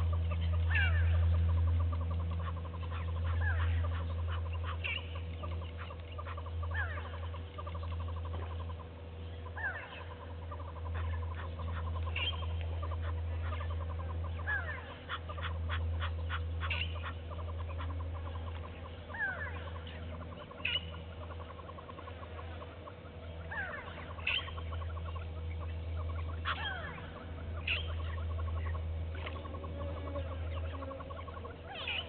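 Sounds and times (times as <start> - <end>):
birds whistling downward calls: 0.0 - 32.0
steady low hum: 0.0 - 32.0.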